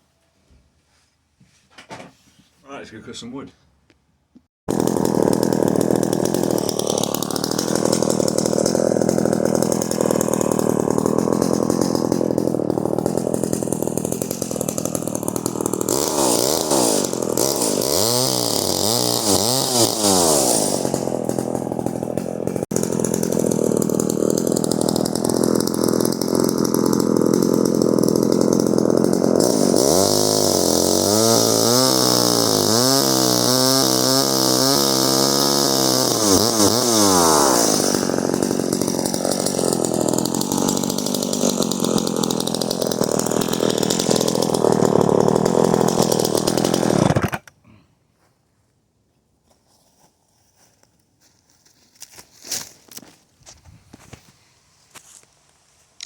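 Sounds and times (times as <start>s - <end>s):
chainsaw cutting wood: 4.7s - 47.9s, 51.7s - 54.3s.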